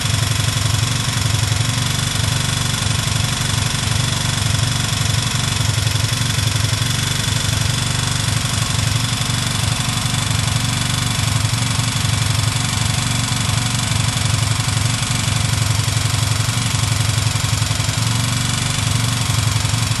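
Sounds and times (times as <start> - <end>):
knock inside engine: 0.0 - 20.0
motorcycle engine idling: 0.0 - 20.0.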